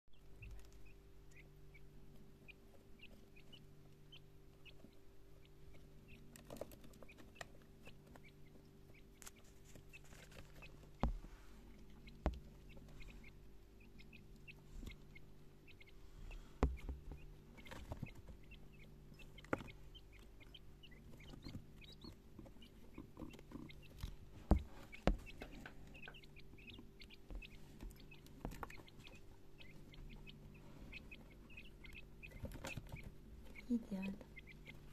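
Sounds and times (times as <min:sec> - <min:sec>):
beaks tapping on feeders: 0:00.1 - 0:34.9
quail chicks peeping: 0:00.1 - 0:34.9
steady low hum: 0:00.1 - 0:34.9.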